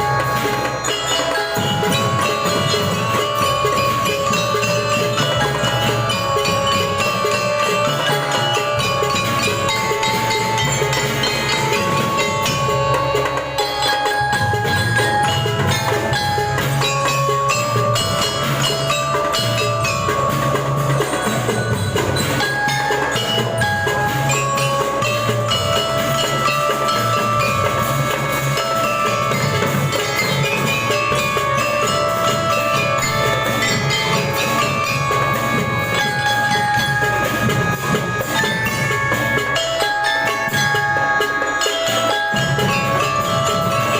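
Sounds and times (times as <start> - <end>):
bell lyre melody: 0.0 - 43.9
steady drumming: 0.0 - 43.9.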